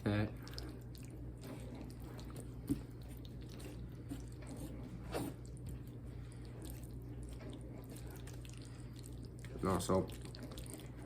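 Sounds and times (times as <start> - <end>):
steady low hum: 0.0 - 11.0
fork stirring creamy pasta: 0.3 - 11.0.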